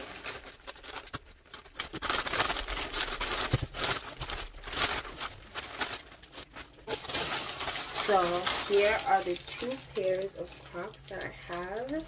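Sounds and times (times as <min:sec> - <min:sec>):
shipping bag tearing and rustling: 0:00.0 - 0:12.0.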